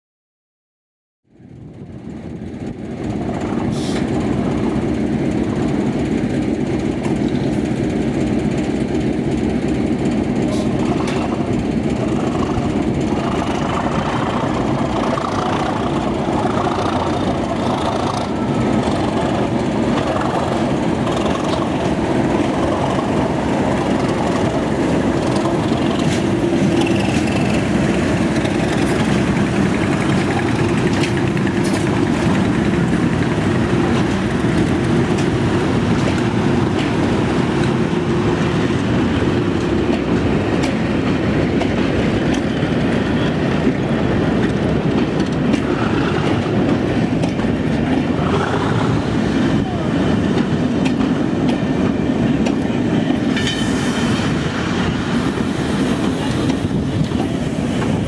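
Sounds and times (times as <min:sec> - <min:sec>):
diesel locomotive engines running: 0:01.2 - 0:58.0.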